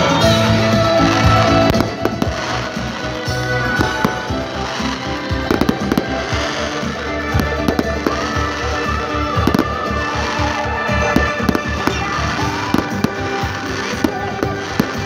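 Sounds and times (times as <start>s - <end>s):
fireworks bangs and crackles: 0.0s - 15.0s
music with held tones: 0.0s - 15.0s.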